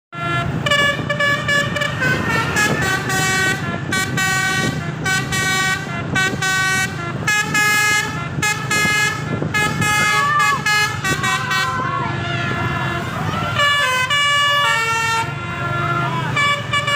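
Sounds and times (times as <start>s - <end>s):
multi-tone air horn melody: 0.1s - 16.9s.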